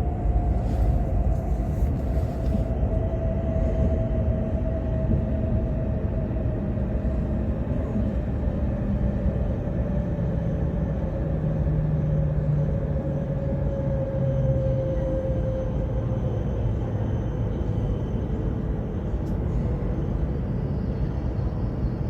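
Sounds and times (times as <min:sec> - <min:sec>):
train rumbling on board: 0:00.0 - 0:22.0.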